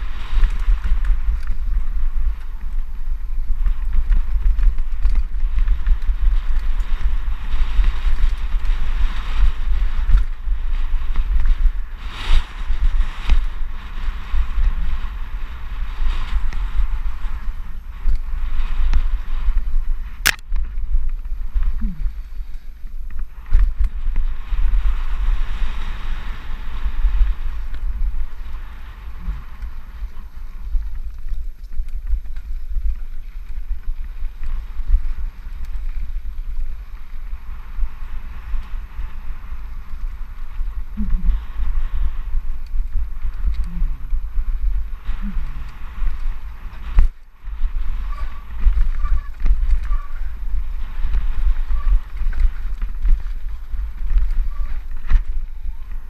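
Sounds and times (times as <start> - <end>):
tyres hissing on dirt trail: 0.0 - 56.0
wind buffeting microphone: 0.0 - 56.0.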